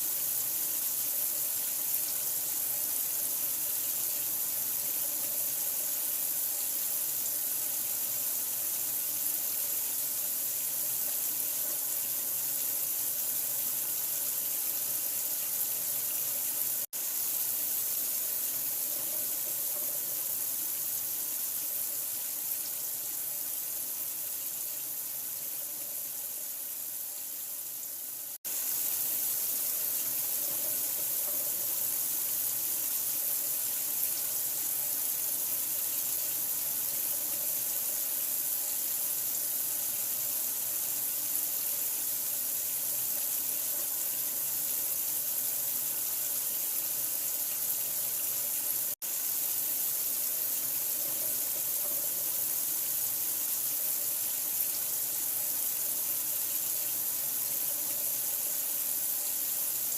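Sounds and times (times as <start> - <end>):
running water hiss: 0.0 - 59.9.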